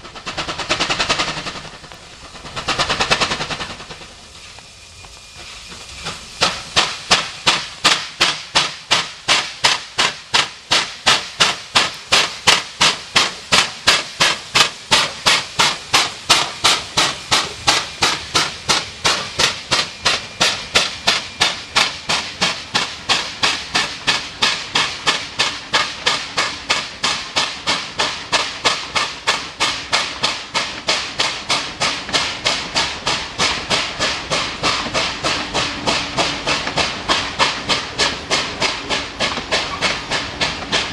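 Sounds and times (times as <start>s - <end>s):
steam locomotive exhaust chuffing: 0.0s - 40.9s.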